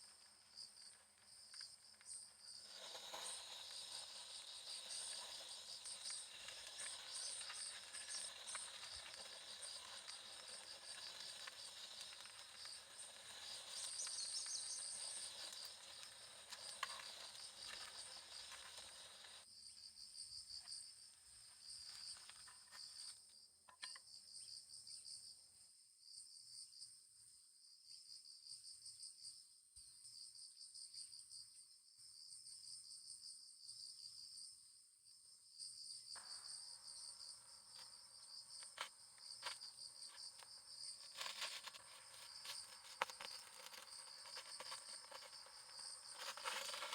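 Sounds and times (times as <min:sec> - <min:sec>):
insects chirping trill: 0:00.0 - 0:25.4, 0:27.8 - 0:46.9.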